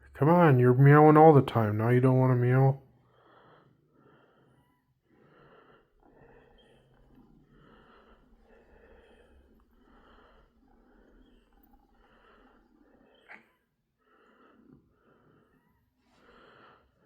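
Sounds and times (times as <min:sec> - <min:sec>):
faint rhythmic breathing: 0:00.0 - 0:17.0.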